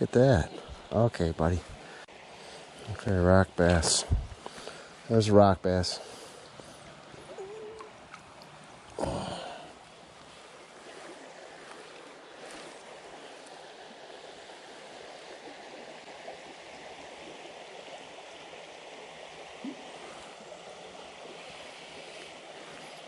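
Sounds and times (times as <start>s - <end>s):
creek water running over rocks: 0.0s - 23.0s.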